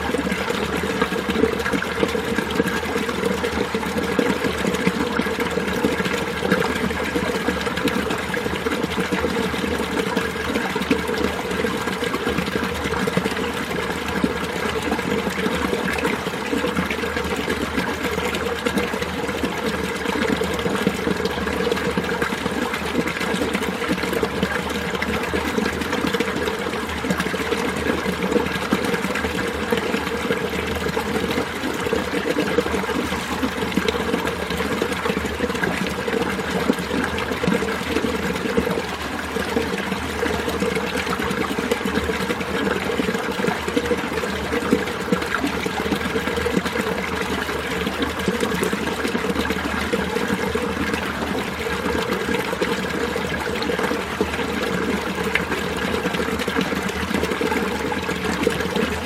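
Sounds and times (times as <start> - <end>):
stream gurgling over rocks: 0.0 - 59.0.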